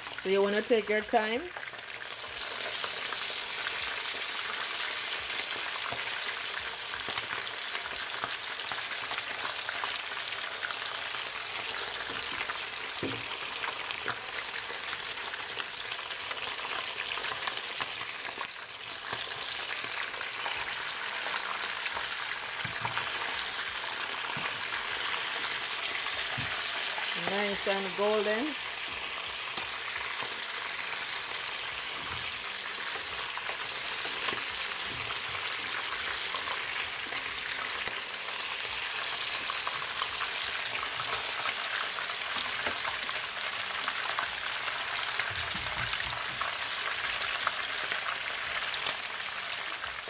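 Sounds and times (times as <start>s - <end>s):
fish deep-frying in oil: 0.0s - 50.0s.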